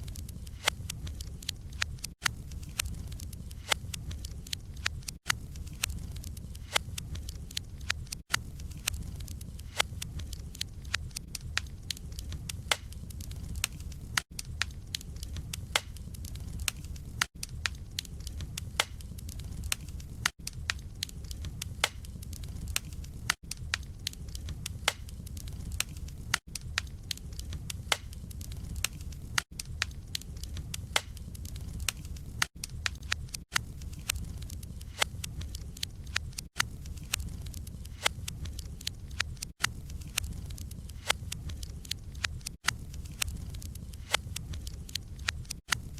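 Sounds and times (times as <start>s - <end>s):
logs crackling and popping: 0.0s - 45.9s
low fire rumble: 0.0s - 45.9s.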